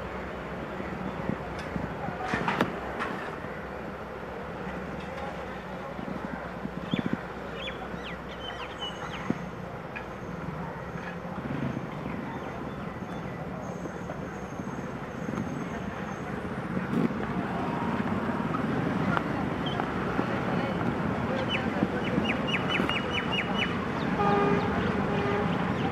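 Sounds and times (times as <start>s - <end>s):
road traffic: 0.0s - 25.9s.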